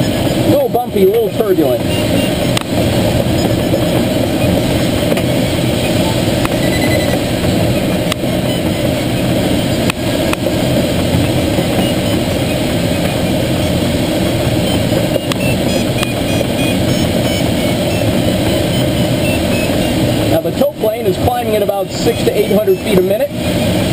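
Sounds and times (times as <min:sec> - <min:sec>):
plane engine droning: 0:00.0 - 0:23.9
rush of air around cockpit: 0:00.0 - 0:23.9.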